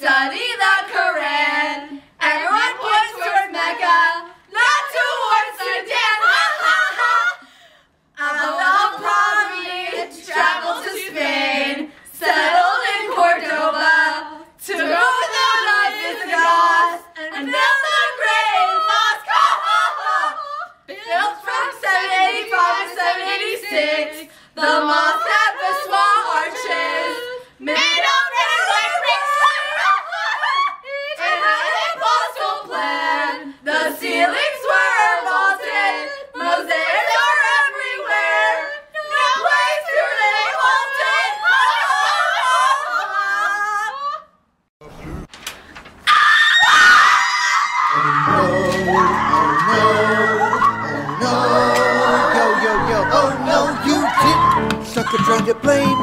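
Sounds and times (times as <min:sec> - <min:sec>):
women singing without accompaniment: 0:00.0 - 0:44.3, 0:48.0 - 0:56.0.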